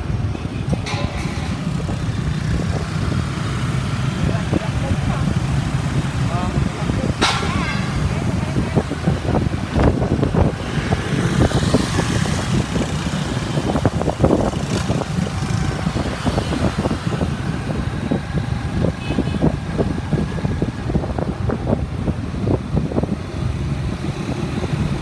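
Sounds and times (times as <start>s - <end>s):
motorbike engines: 0.0s - 25.0s
street traffic: 0.0s - 25.0s
wind buffeting microphone: 0.0s - 25.0s.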